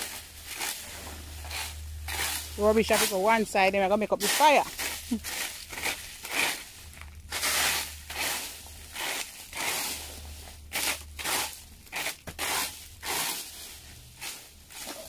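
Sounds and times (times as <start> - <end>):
raking dry leaves: 0.0 - 15.0.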